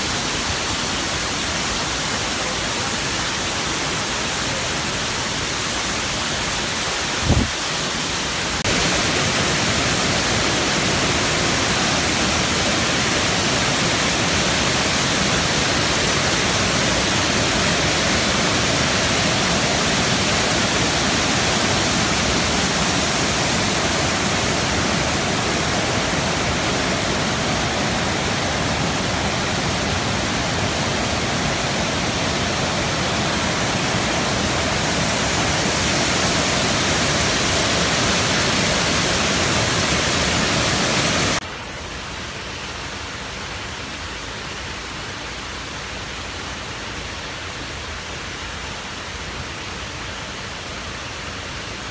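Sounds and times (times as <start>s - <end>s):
waterfall rushing over rocks: 0.0s - 51.9s.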